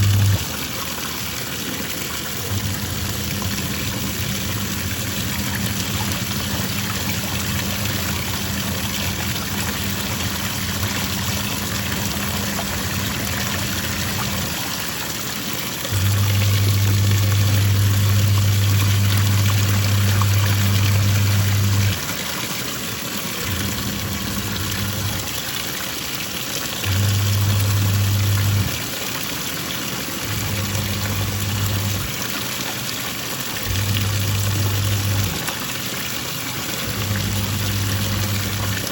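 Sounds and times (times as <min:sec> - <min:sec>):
washing machine motor humming: 0:00.0 - 0:38.9
water sloshing in washing machine: 0:00.0 - 0:38.9.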